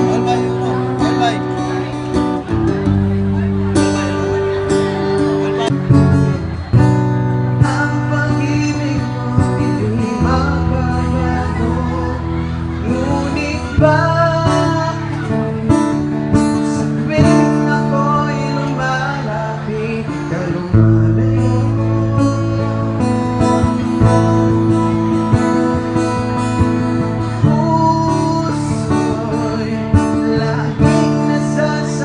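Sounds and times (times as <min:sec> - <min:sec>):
man singing: 0:00.0 - 0:01.8, 0:07.3 - 0:32.0
strummed acoustic guitar: 0:00.0 - 0:32.0.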